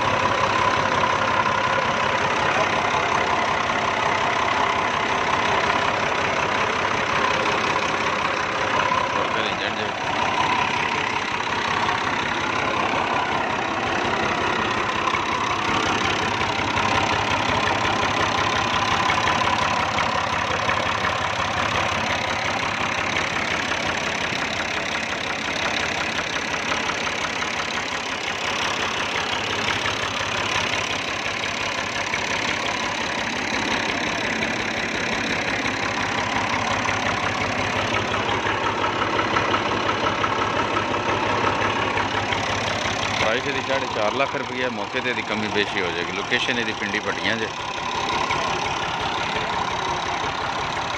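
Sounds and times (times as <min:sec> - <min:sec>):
tractor diesel engine idling: 0:00.0 - 0:50.9.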